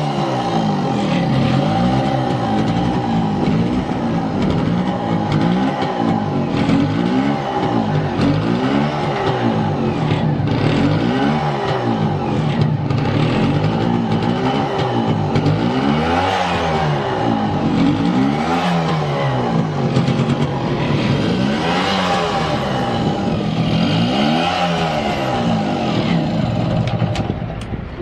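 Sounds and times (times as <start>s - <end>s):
two-stroke engine revving: 0.0s - 28.0s.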